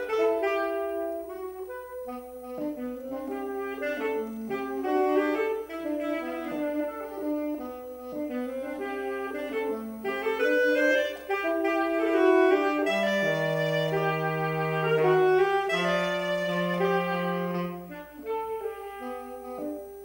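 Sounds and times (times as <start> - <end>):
saxophone duet: 0.0 - 20.0.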